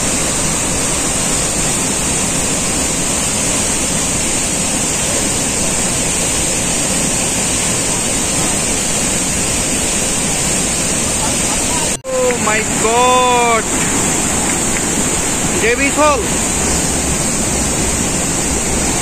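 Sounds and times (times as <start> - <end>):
water rushing over rock: 0.0 - 19.0.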